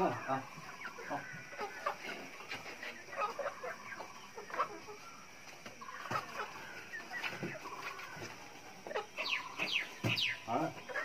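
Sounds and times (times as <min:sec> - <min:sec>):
high falling poultry calls: 0:00.0 - 0:11.0
poultry rattling calls: 0:00.0 - 0:11.0.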